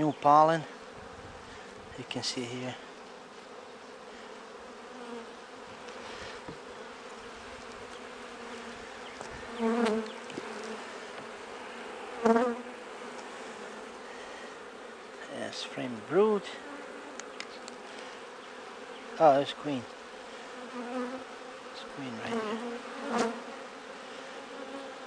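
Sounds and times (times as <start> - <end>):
close bee buzz: 0.0 - 25.0
honeybees buzzing: 0.0 - 25.0.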